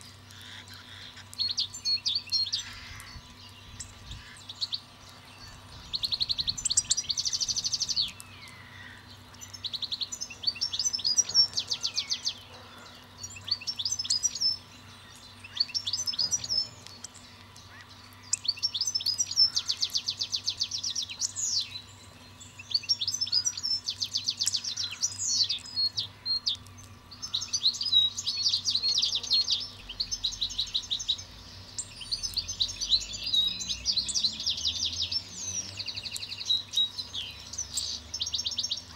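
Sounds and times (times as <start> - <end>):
songbird trilling: 0.4 - 38.9.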